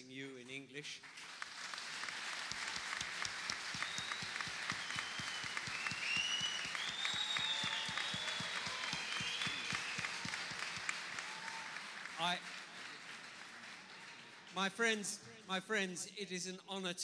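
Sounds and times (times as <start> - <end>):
audience applauding: 1.0 - 15.4.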